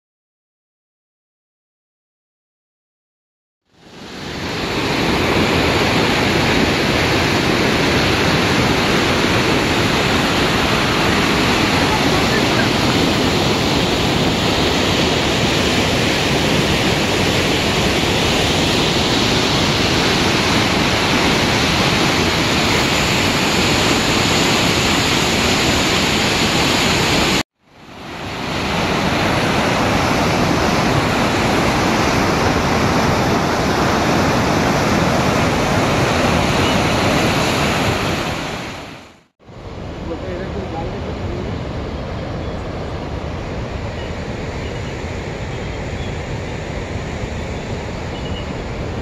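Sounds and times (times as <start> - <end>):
waterfall roaring: 3.8 - 49.0.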